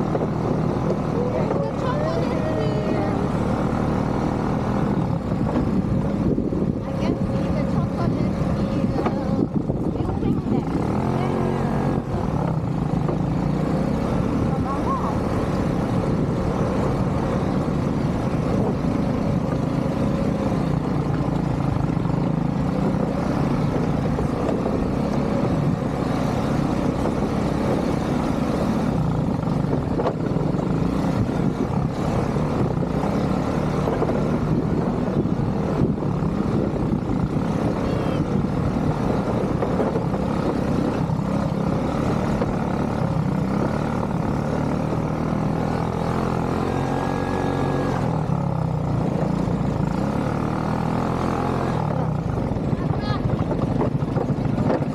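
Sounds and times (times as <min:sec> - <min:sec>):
atv engine rumbling: 0:00.0 - 0:54.9.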